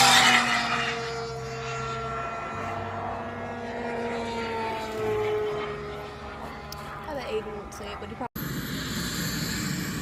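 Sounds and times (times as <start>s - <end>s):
model airplane motors whining: 0.0s - 10.0s.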